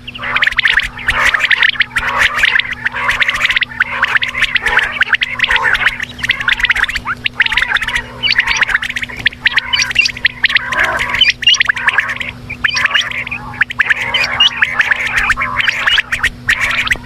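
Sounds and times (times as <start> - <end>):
quail chirping: 0.0 - 17.0.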